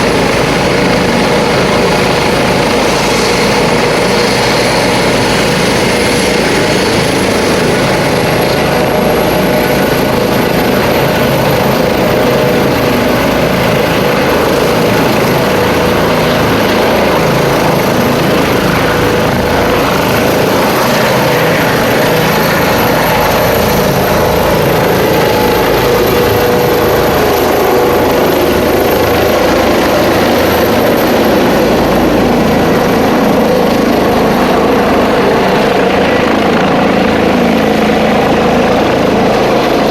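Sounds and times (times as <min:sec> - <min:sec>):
helicopter engines and rotor: 0:00.0 - 0:39.9
high turbine whine: 0:00.0 - 0:39.9.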